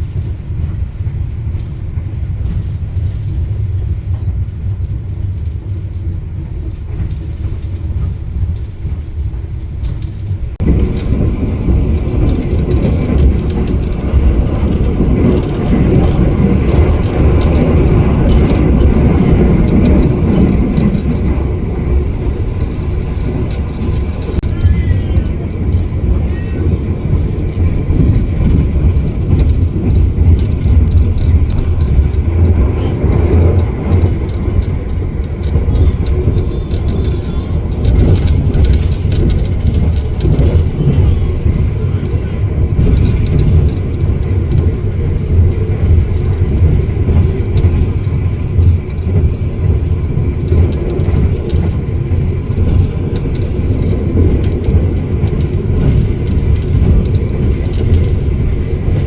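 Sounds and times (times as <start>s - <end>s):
train wheels rumbling on track: 0.0s - 59.0s
faint ticks and rattles: 0.1s - 59.0s.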